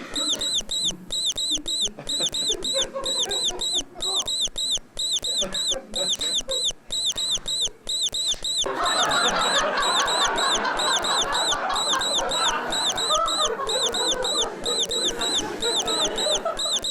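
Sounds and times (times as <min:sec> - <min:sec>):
rapid high chirps: 0:00.0 - 0:16.9.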